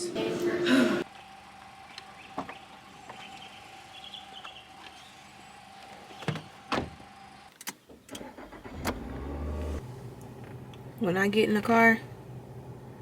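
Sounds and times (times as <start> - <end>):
car engine starting and rumbling: 1.0 - 13.0.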